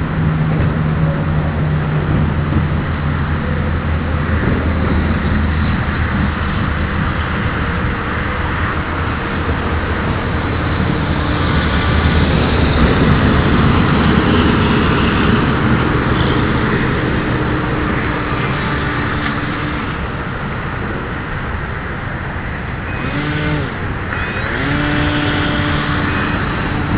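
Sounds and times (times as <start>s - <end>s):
airboat engine and propeller: 0.0s - 26.9s.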